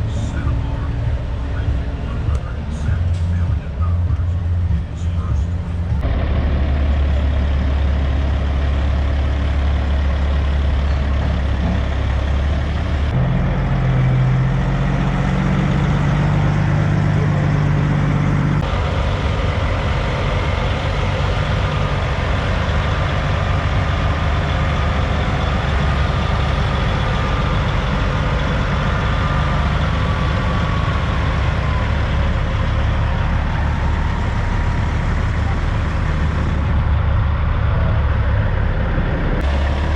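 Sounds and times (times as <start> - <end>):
diesel truck engines rumbling: 0.0 - 39.9.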